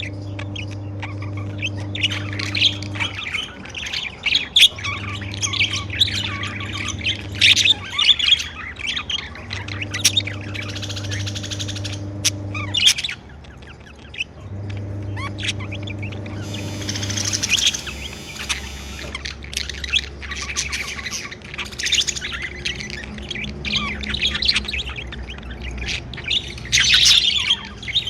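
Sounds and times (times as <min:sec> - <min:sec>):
low steady hum: 0:00.0 - 0:12.9, 0:14.2 - 0:25.1
budgerigars chirping and squawking: 0:00.0 - 0:28.0.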